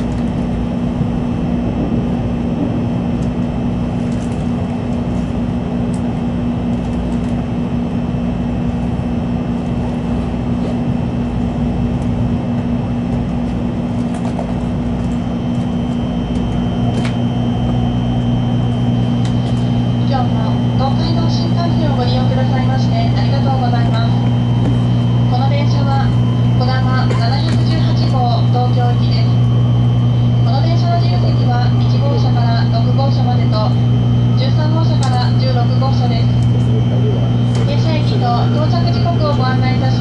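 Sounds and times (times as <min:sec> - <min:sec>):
train wheels rumbling on rails: 0:00.0 - 0:33.8
low hums: 0:00.0 - 0:40.0.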